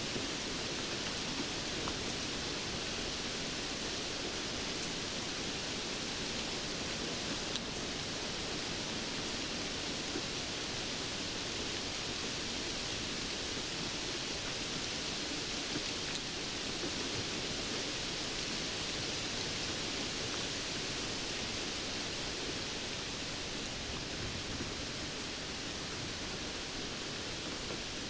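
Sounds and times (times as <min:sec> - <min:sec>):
rain hissing: 0:00.0 - 0:28.0.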